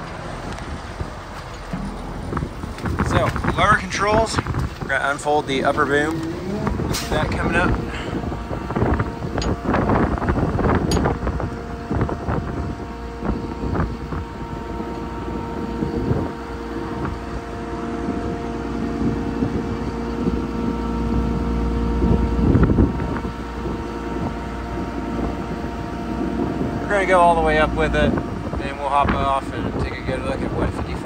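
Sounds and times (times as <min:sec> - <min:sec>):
diesel engine and hydraulic pump hum: 0:00.0 - 0:31.0
wind gusts on microphone: 0:00.0 - 0:31.0.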